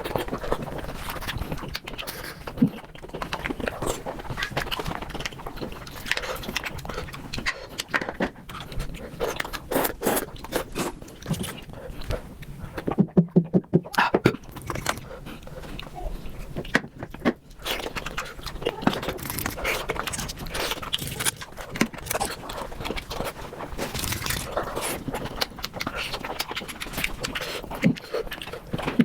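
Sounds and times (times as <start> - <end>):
crunching and chewing: 0.0 - 13.3, 13.9 - 29.0.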